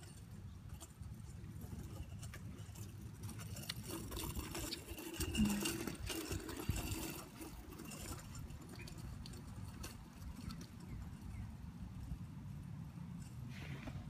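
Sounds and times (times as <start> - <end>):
child's bicycle rattling on asphalt: 0.0 - 13.7.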